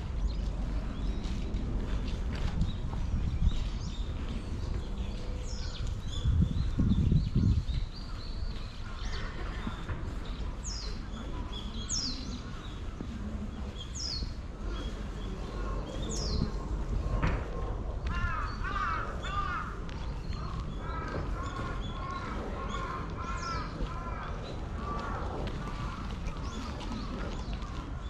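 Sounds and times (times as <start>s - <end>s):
birds chirping: 0.0s - 17.2s, 18.1s - 28.0s
outdoor background noise: 0.0s - 28.0s.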